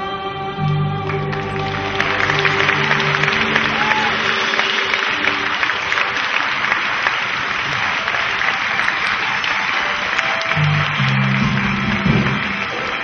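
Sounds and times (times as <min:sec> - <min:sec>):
held musical notes: 0:00.0 - 0:13.0
audience applauding: 0:00.7 - 0:13.0.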